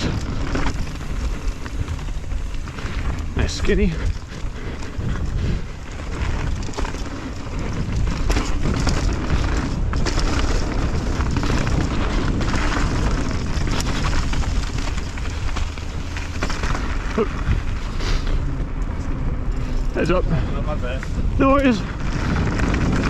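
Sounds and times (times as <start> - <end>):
bike knocks and rattles: 0.0 - 20.2
wind rumbling on microphone: 0.0 - 23.0.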